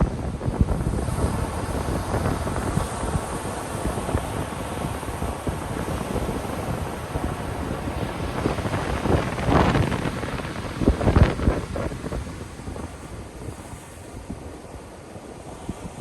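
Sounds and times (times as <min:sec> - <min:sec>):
ocean surf on a beach: 0:00.0 - 0:16.0
wind buffeting the microphone: 0:00.0 - 0:16.0.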